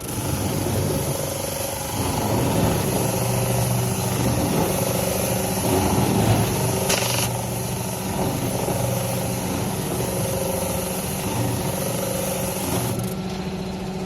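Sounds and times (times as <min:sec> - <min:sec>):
sanding machine hum: 0:00.0 - 0:14.0.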